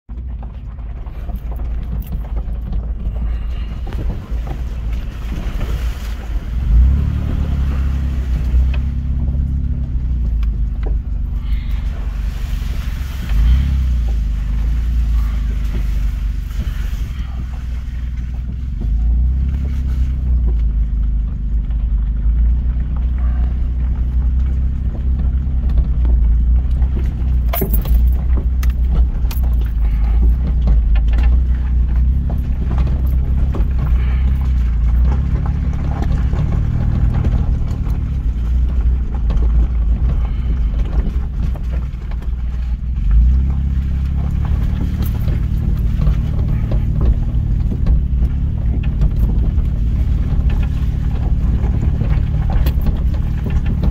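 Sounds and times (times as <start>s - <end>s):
vehicle engine and tyre rumble: 0.0s - 53.9s.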